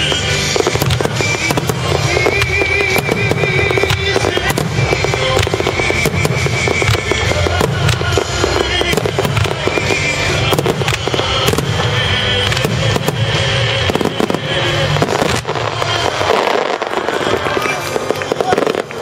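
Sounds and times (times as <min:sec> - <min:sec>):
fireworks bursts: 0:00.0 - 0:19.0
music playing: 0:00.0 - 0:19.0.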